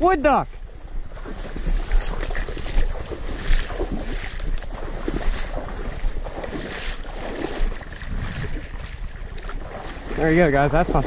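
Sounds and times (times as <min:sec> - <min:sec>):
water sloshing from wading: 0:00.0 - 0:11.0
wind rumbling on microphone: 0:00.0 - 0:11.0.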